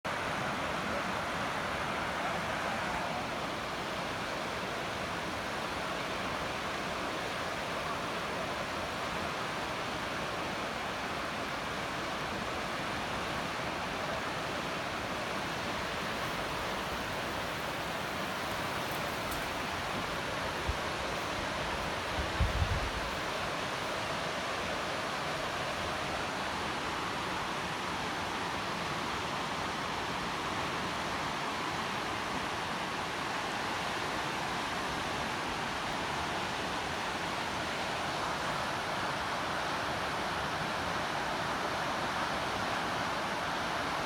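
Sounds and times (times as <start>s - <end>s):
river rapids rushing: 0.1s - 44.0s.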